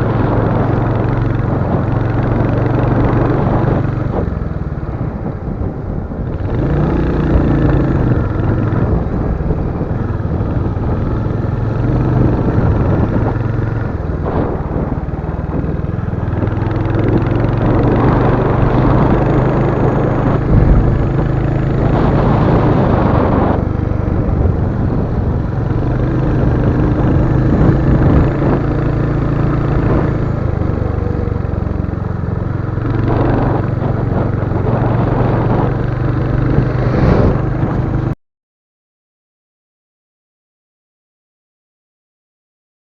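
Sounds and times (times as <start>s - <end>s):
motorcycle engine running: 0.0s - 38.2s
wind and road noise: 0.0s - 38.2s.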